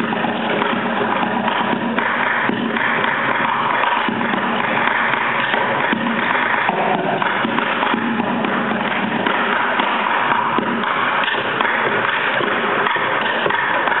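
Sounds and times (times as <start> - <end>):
group drumming on plastic buckets: 0.0 - 14.0.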